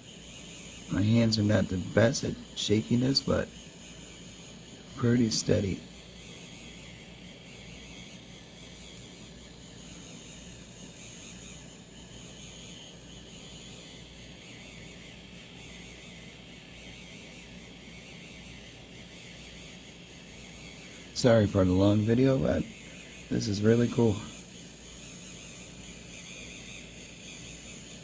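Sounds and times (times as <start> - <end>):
small motor whirring: 0.0 - 28.0.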